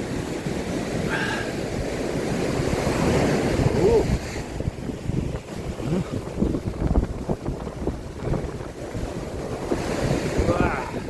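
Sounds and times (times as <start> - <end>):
sea surf on beach: 0.0 - 11.0
wind buffeting microphone: 0.0 - 11.0.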